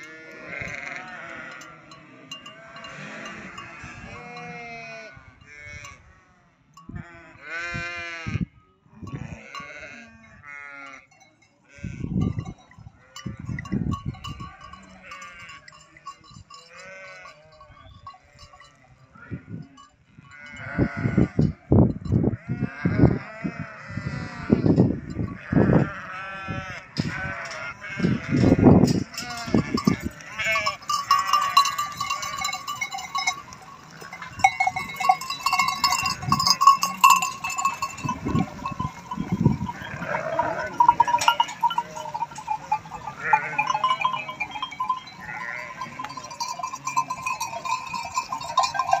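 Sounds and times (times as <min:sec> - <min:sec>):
sheep bleating: 0:00.0 - 0:06.0, 0:06.9 - 0:08.5, 0:09.1 - 0:12.2, 0:14.2 - 0:16.0, 0:16.6 - 0:18.5, 0:20.3 - 0:21.6, 0:22.3 - 0:49.0.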